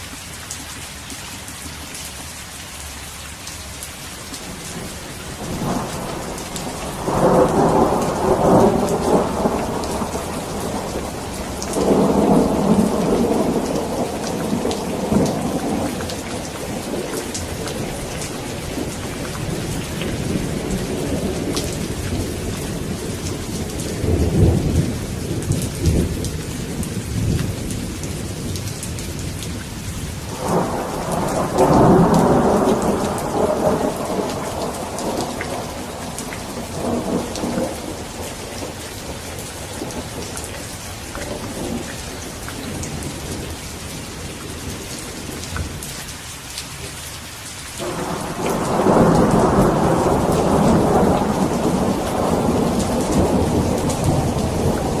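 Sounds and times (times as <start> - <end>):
steady rain: 0.0 - 55.0
thunder rumbling: 4.4 - 45.9, 47.8 - 55.0.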